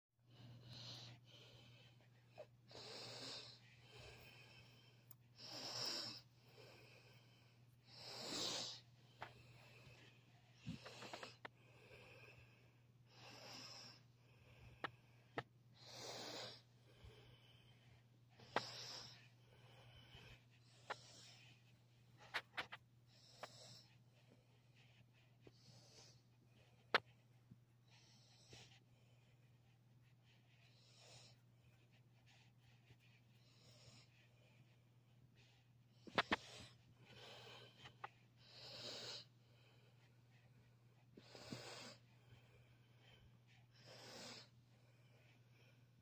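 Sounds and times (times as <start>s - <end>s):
quiet breathing: 0.2s - 46.0s.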